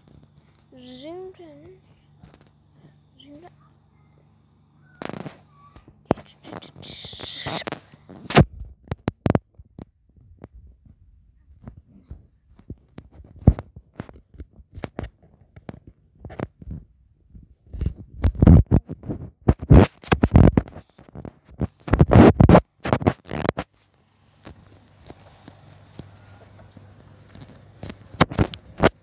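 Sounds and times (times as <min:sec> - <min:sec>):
microphone handling noise: 0:05.0 - 0:29.0.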